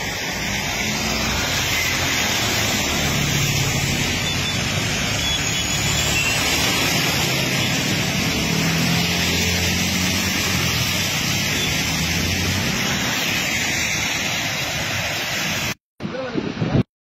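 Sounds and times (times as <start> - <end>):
floodwater rushing: 0.0 - 15.8.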